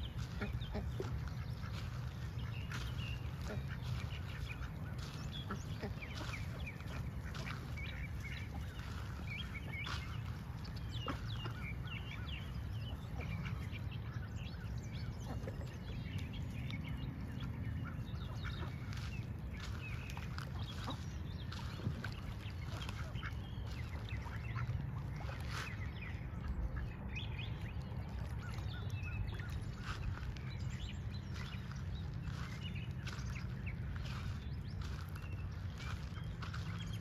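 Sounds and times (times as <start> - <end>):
ducks calling: 0.0 - 37.0
steady low rumble: 0.0 - 37.0.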